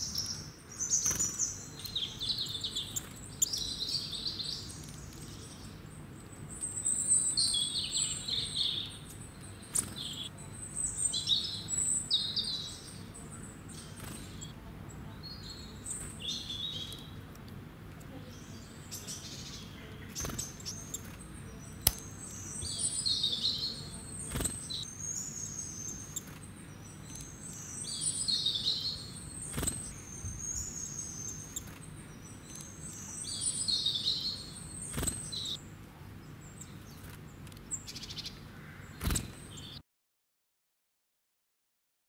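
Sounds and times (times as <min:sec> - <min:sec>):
bird chirps and trills: 0:00.0 - 0:17.3, 0:17.9 - 0:39.8.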